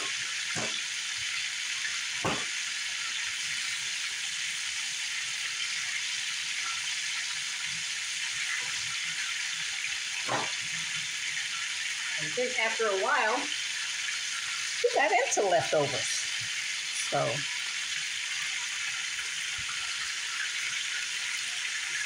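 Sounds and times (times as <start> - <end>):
steaks sizzling in oil: 0.0 - 22.0.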